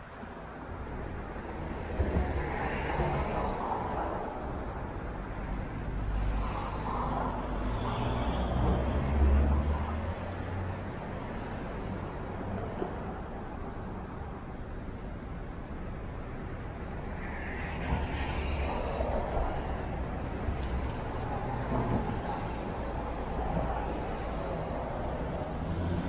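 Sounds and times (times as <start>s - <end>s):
cars driving by: 0.0s - 14.2s, 16.2s - 26.0s.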